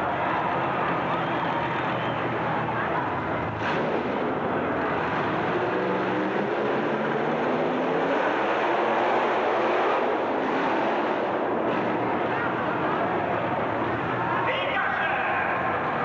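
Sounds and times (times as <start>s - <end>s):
racing truck engine running: 0.0s - 16.0s.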